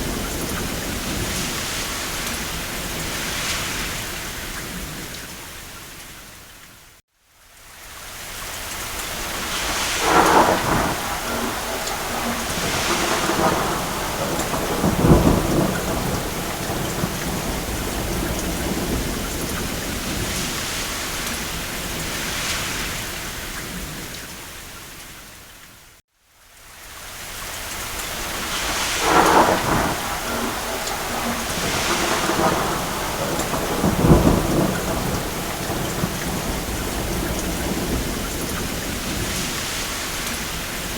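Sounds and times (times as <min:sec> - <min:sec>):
distant thunder rolling: 0:00.0 - 0:05.2, 0:09.2 - 0:24.2, 0:28.2 - 0:40.9
rain falling on a roof: 0:00.0 - 0:40.9.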